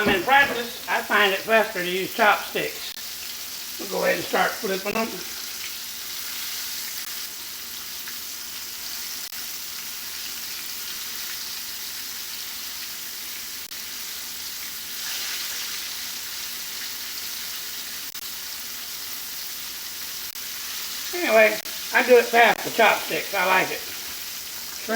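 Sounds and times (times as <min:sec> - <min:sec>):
shrimp sizzling in hot oil: 0:00.0 - 0:24.9.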